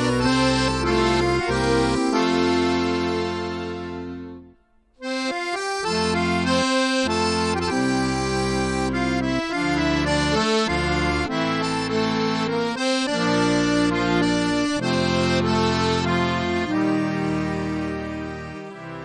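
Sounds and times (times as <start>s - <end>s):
accordion music: 0.0s - 19.0s.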